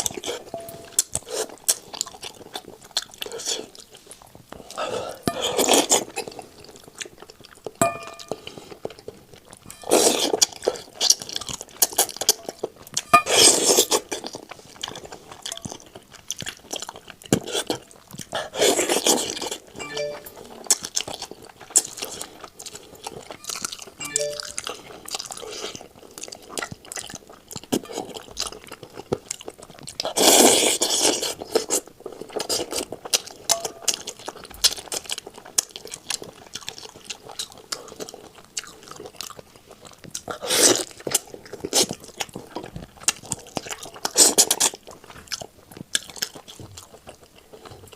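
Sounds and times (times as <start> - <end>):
wet chewing and crunching: 0.0 - 19.8, 20.6 - 24.0, 24.6 - 47.9.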